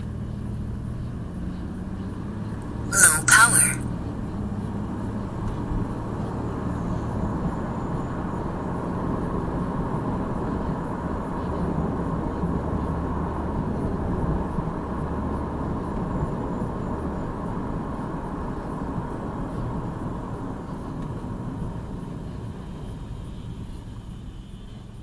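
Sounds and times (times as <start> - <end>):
car engine hum: 0.0 - 25.0
road noise: 0.0 - 25.0.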